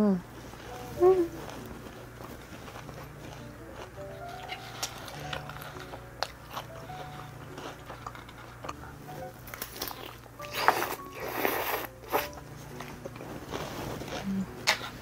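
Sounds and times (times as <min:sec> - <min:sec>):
faint background music: 0:00.0 - 0:15.0
chewing: 0:00.5 - 0:15.0
crunching fried chicken: 0:01.4 - 0:15.0.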